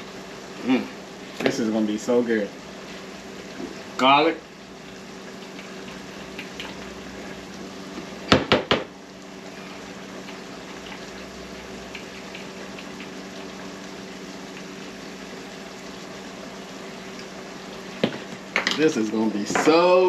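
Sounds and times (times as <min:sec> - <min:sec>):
food sizzling in a pot: 0:00.0 - 0:20.0
steady hum: 0:00.0 - 0:20.0.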